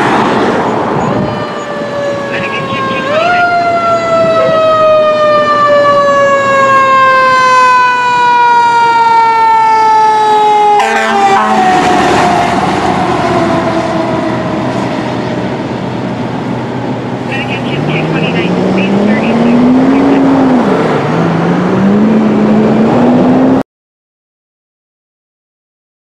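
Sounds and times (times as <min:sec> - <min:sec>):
fire engine siren wailing: 0:00.0 - 0:23.6
truck engine and road noise: 0:00.0 - 0:23.6.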